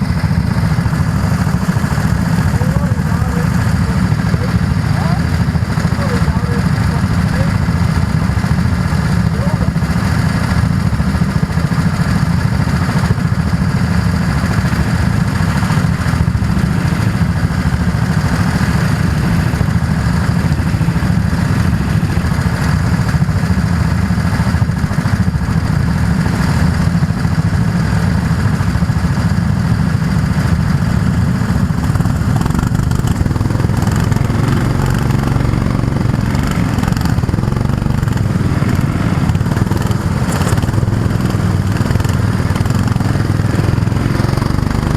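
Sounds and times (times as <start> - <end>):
go-kart engine running: 0.0 - 44.9.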